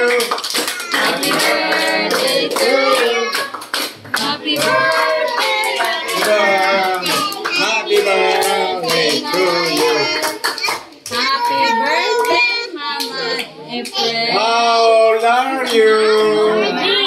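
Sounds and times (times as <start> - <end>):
people clapping hands: 0.0 - 14.1, 15.6 - 16.4
people singing: 0.0 - 17.0.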